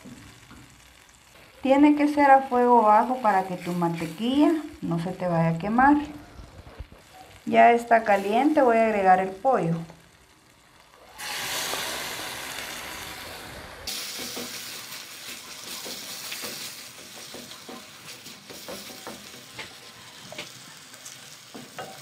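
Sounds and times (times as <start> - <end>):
chicken sizzling in butter: 0.0 - 22.0.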